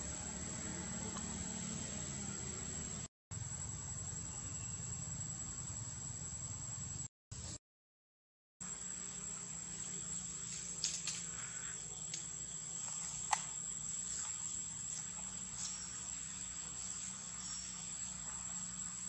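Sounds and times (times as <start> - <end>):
insects droning: 0.0 - 7.6, 8.6 - 19.0.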